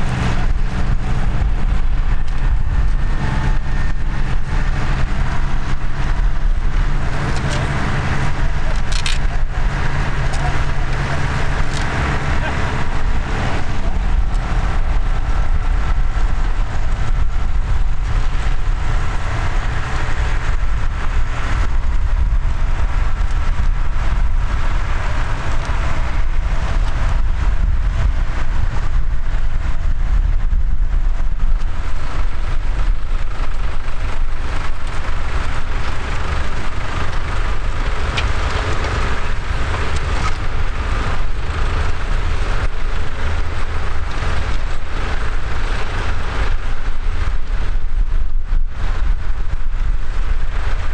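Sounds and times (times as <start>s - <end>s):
diesel tractor engines under load: 0.0s - 50.9s.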